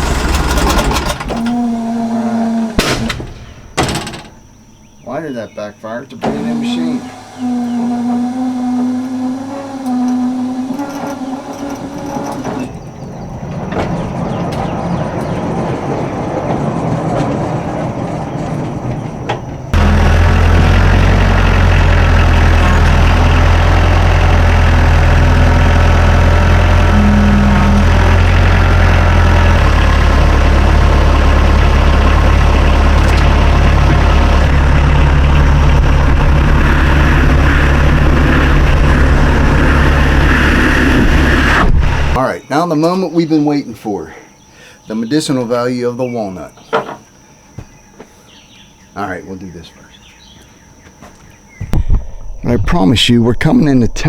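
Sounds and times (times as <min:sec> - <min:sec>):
sawmill engine drone: 0:00.0 - 0:42.2, 0:51.8 - 0:54.0.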